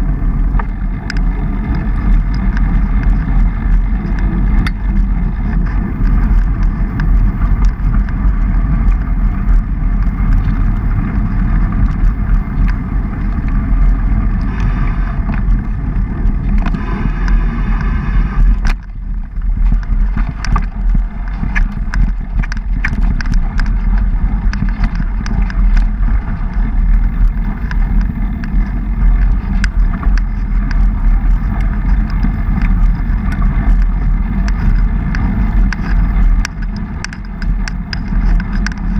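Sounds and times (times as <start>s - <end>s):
bike clicks and rattles: 0.0s - 38.9s
mountain bike rumbling over dirt: 0.0s - 38.9s
wind buffeting microphone: 0.0s - 38.9s.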